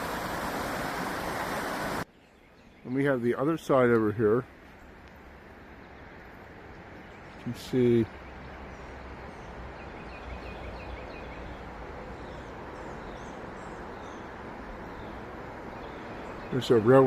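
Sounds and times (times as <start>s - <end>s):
traffic hum: 0.0s - 2.1s, 2.9s - 17.0s
small birds chirping: 1.3s - 17.0s.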